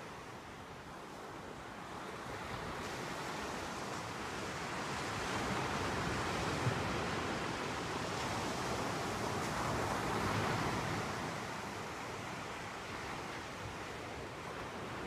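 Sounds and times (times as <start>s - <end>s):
waves washing on beach: 0.0s - 15.0s.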